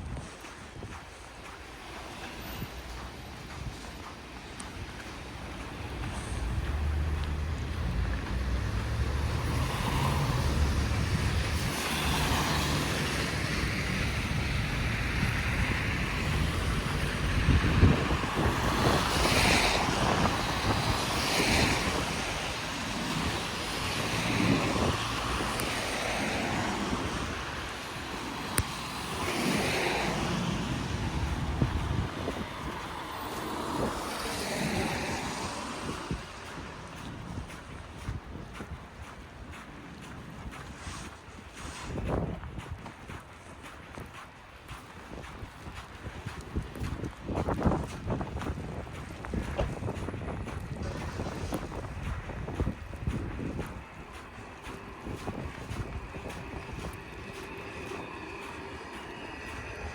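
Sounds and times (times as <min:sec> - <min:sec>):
tyres swishing through slush: 0:00.0 - 0:59.9.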